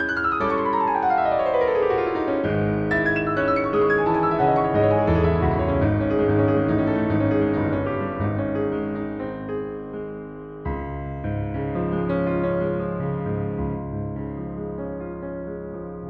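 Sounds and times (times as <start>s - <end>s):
piano chords and bass line: 0.0s - 16.0s.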